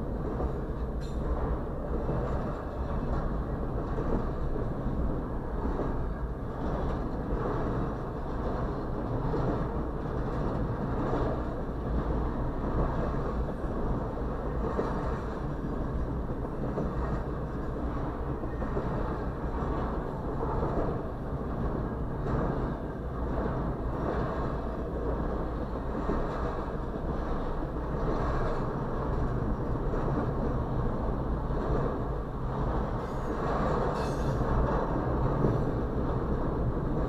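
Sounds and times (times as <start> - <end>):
muffled freight train rumble: 0.0 - 37.0.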